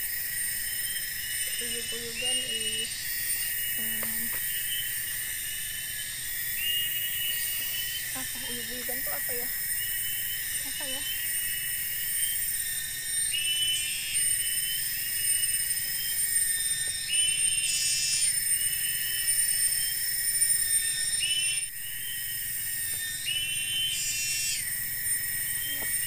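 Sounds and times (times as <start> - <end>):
insect chirping call: 0.0 - 26.0
shrill insect tones: 0.0 - 26.0.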